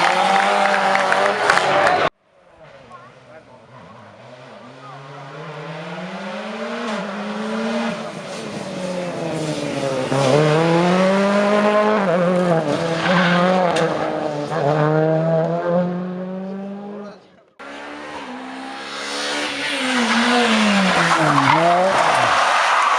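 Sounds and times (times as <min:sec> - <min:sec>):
rally car engine at full throttle: 0:00.0 - 0:22.9.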